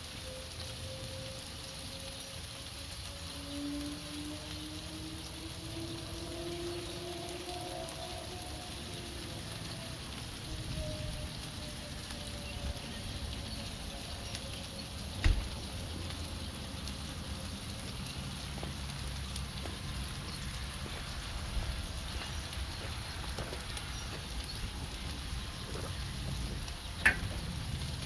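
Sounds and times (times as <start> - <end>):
food sizzling on cooktop: 0.0 - 28.0.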